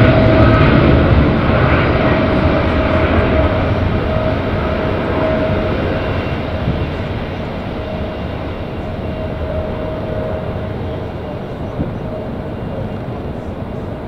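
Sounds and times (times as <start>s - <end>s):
jet airliner engines: 0.0s - 14.0s.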